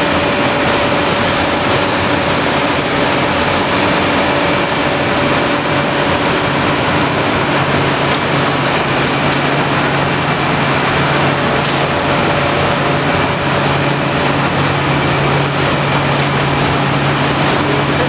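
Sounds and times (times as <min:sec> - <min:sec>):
loud machine drone: 0:00.0 - 0:18.0.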